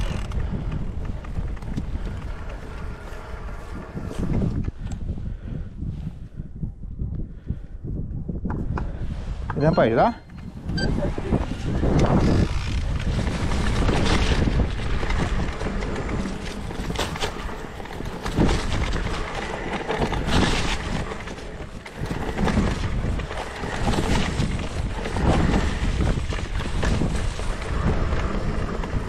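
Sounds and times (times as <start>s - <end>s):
bike knocking and rattling: 0.0s - 5.1s, 9.9s - 29.0s
wind buffeting microphone: 0.0s - 29.0s.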